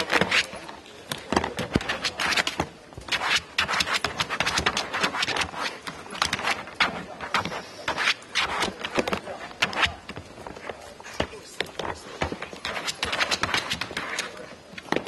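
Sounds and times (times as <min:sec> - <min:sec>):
dog claws scratching plastic: 0:00.0 - 0:15.0.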